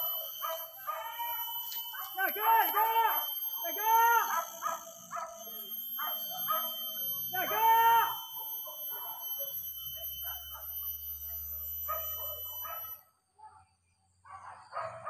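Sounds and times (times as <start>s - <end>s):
dogs barking and yelping: 0.0s - 7.2s, 8.1s - 13.0s, 14.3s - 15.0s.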